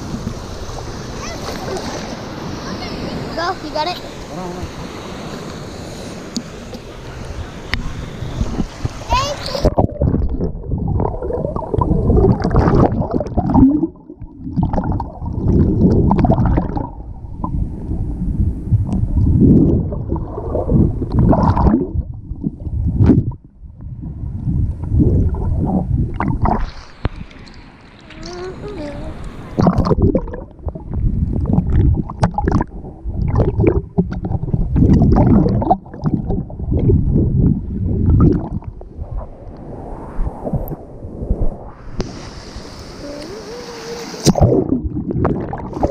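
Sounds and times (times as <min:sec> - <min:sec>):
water splashes: 0:00.0 - 0:23.5, 0:24.2 - 0:45.9
underwater rumbling and gurgling: 0:06.7 - 0:43.5, 0:44.1 - 0:45.9.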